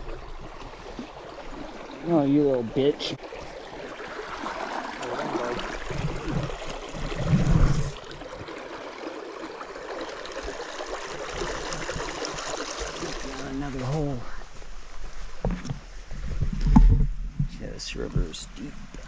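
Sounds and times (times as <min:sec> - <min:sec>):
river water running: 0:00.0 - 0:16.3.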